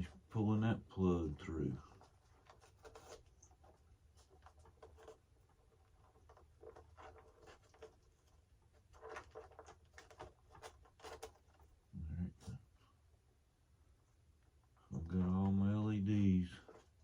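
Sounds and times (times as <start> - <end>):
faint rustles and ticks: 0.0 - 17.0.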